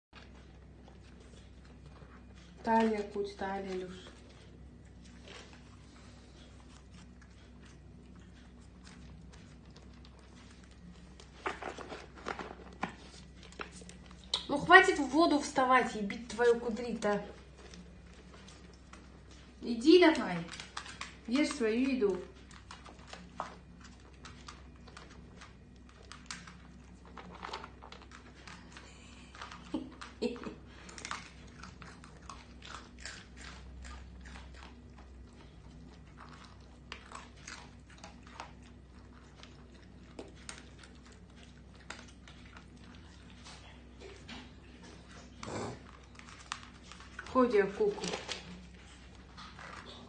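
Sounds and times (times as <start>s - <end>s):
dogs chewing food: 0.1s - 50.0s.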